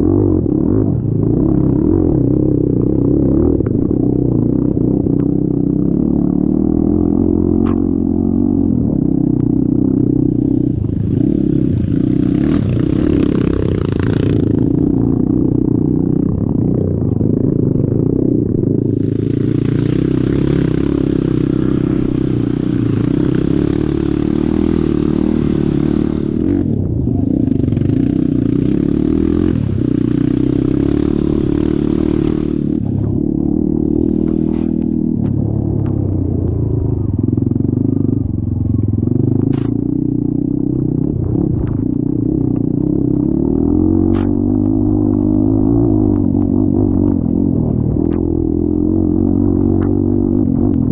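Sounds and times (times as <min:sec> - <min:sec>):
vehicle engine running under load: 0:00.0 - 0:50.9.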